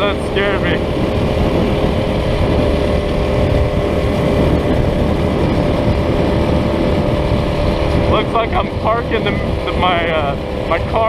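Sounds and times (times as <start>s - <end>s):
low rumble: 0.0s - 11.0s
small engine running steadily: 0.0s - 11.0s.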